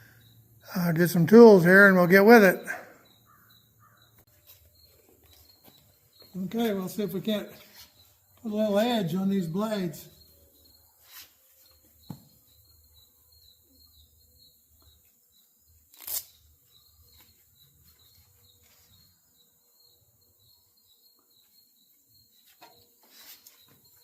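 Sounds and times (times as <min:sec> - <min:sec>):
birds or insects chirping: 0:00.0 - 0:24.0.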